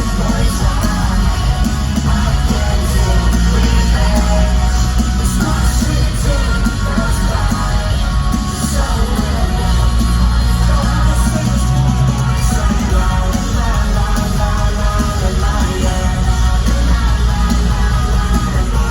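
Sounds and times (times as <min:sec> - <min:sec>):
live rock music: 0:00.0 - 0:18.9.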